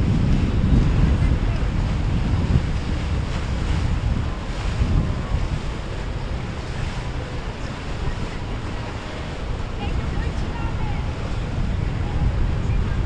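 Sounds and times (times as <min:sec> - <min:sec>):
sea waves: 0:00.0 - 0:13.0
wind buffeting microphone: 0:00.0 - 0:13.0.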